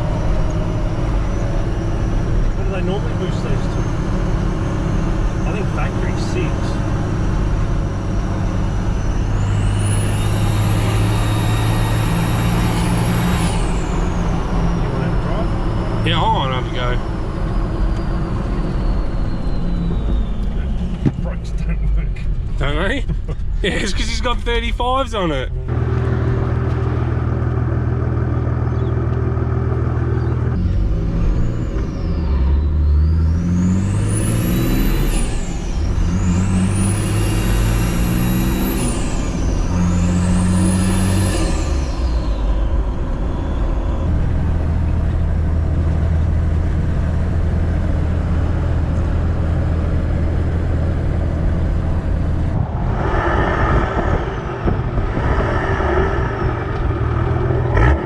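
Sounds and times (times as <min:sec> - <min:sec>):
diesel engine accelerating: 0:00.0 - 0:58.0.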